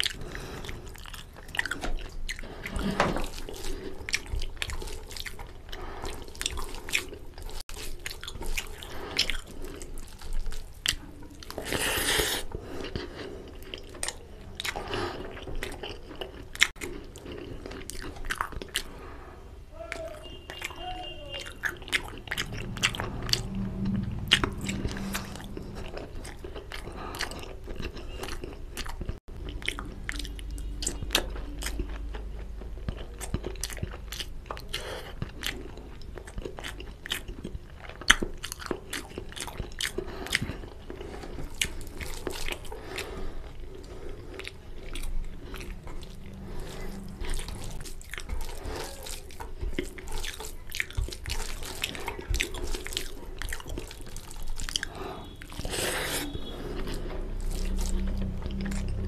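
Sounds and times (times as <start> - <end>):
chewing and mouth smacking: 0.0 - 19.2, 19.9 - 59.0.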